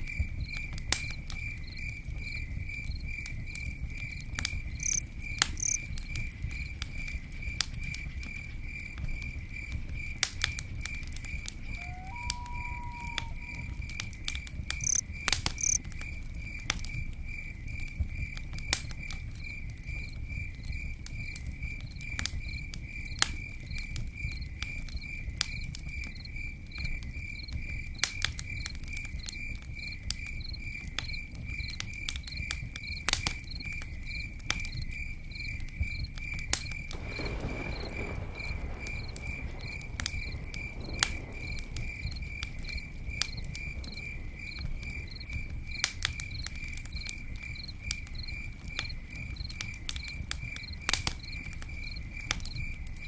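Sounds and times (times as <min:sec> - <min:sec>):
campfire crackling and popping: 0:00.0 - 0:53.0
cricket chirping: 0:00.0 - 0:53.0.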